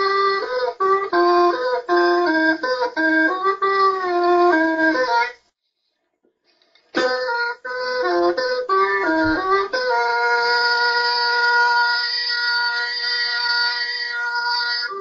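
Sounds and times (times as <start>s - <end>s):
bamboo reed pipe tune: 0.0s - 5.5s, 6.8s - 15.0s.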